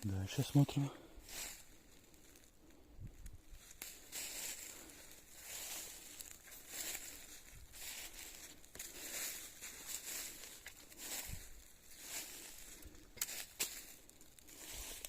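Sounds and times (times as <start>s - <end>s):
footsteps crunching through dry leaves: 0.2s - 2.6s, 3.2s - 15.0s.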